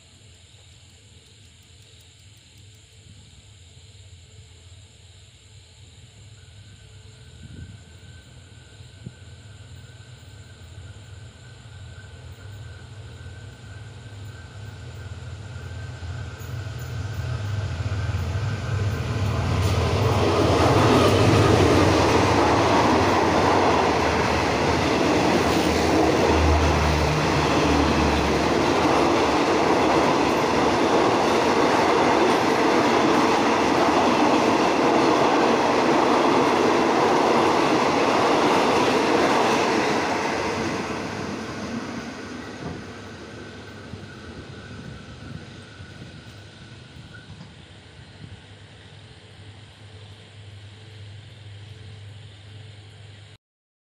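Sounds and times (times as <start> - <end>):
train low hum: 0.0 - 53.4
train wheels on rails: 9.0 - 53.3.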